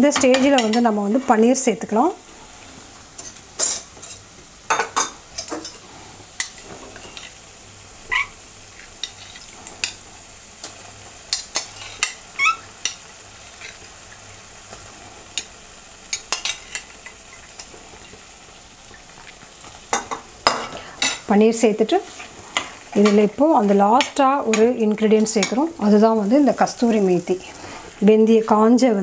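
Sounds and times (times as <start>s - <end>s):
gravy sizzling in a pan: 0.0s - 29.0s.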